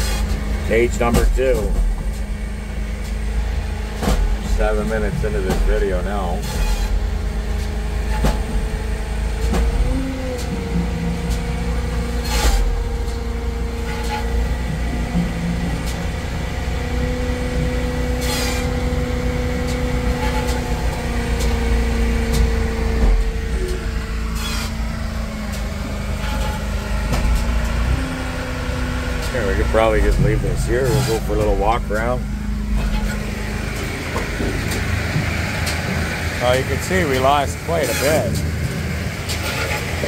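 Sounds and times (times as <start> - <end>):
diesel engine and hydraulics: 0.0 - 40.0
firewood processor working: 0.0 - 40.0.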